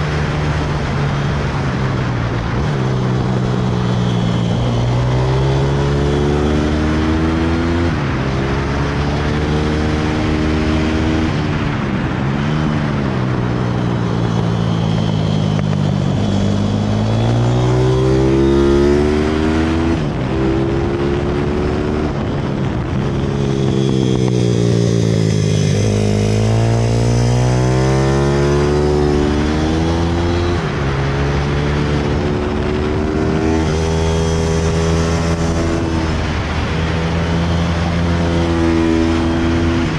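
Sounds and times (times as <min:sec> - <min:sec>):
motorbike engine revving: 0:00.0 - 0:11.6, 0:14.1 - 0:39.9.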